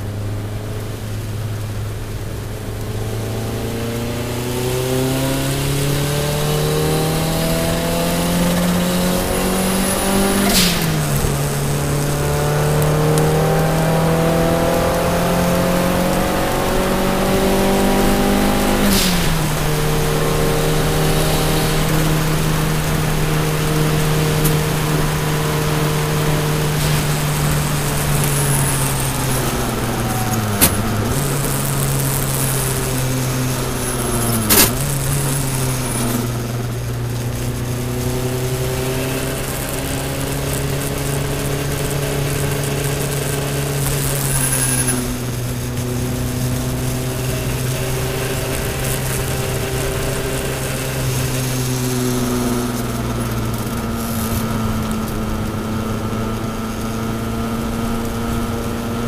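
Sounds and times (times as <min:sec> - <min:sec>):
car engine running hard: 0:00.0 - 0:59.0
tyre spray hiss: 0:04.6 - 0:54.9.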